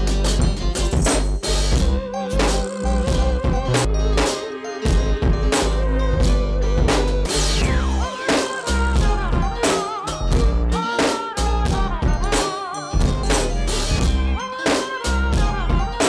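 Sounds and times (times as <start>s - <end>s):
deep bass: 0.0s - 4.3s, 4.9s - 8.1s, 8.7s - 10.8s, 11.4s - 12.4s, 13.0s - 14.4s, 15.2s - 16.0s
drum beat: 0.0s - 14.3s
wavering lead melody: 0.0s - 16.0s.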